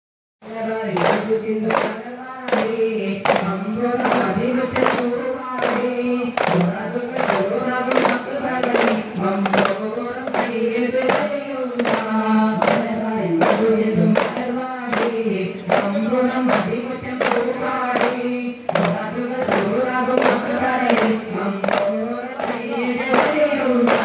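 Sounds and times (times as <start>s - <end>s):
boys singing in unison: 0.4s - 24.0s
frame drums beating: 0.9s - 24.0s.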